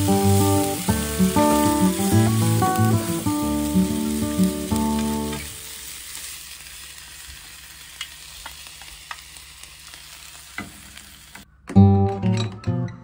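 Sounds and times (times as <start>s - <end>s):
vegetables sizzling in a pan: 0.0s - 11.4s.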